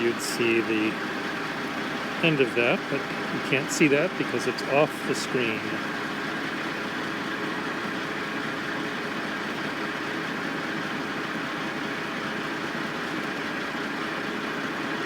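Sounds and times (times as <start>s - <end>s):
machinery engine running: 0.0s - 15.0s.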